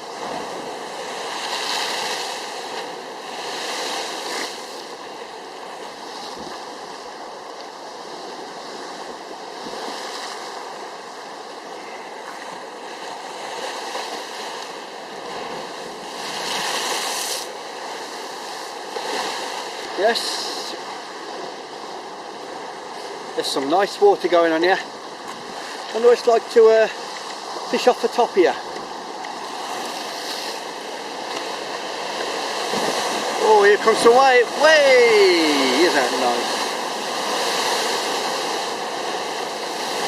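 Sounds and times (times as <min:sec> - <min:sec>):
sea waves breaking on shore: 0:00.0 - 0:40.0.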